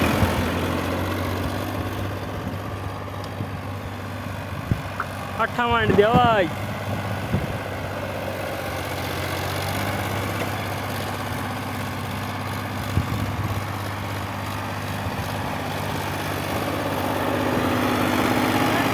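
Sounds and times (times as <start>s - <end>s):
diesel tractor engine running: 0.0s - 18.9s.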